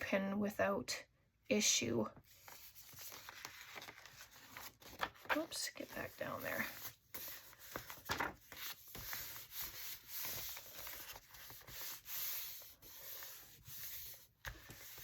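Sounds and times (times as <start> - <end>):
paper scraping against paper: 2.4 - 15.0.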